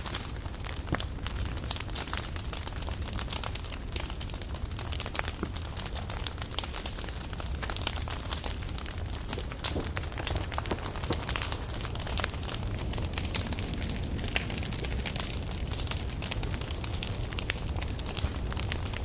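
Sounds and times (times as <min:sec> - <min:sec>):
firewood crackling and popping: 0:00.0 - 0:19.0
low fire rumble: 0:00.0 - 0:19.0.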